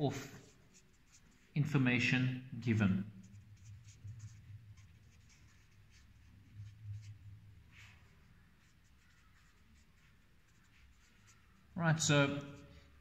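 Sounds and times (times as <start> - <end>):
marker scratching on paper: 0.2 - 1.6, 3.2 - 13.0.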